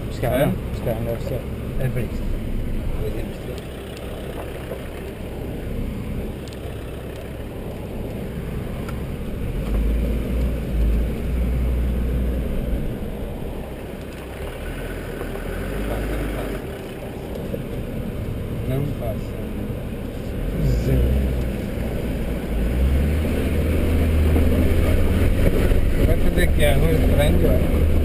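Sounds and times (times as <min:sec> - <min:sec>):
deeper heavier rumble: 0:00.0 - 0:28.0
vehicle rumbling on dirt track: 0:00.0 - 0:28.0.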